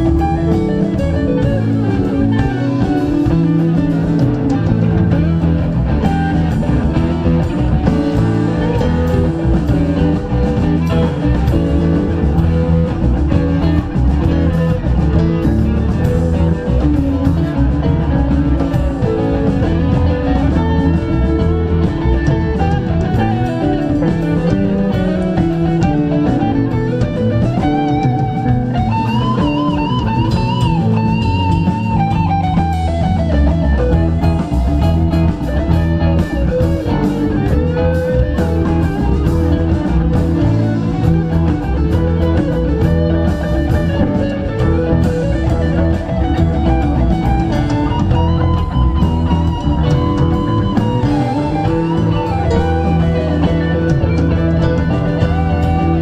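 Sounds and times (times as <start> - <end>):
bass: 0.0 - 56.0
drum kit: 0.0 - 56.0
electric guitars: 0.0 - 56.0.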